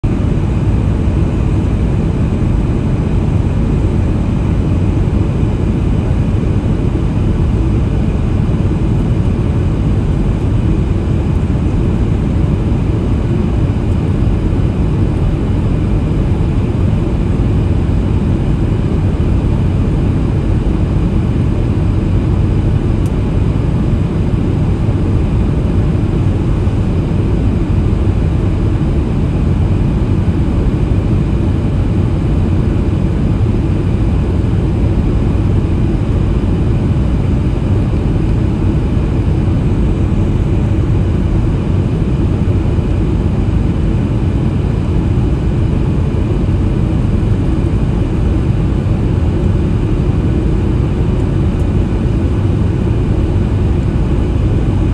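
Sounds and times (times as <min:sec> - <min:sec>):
airplane cabin roar: 0:00.0 - 0:54.9.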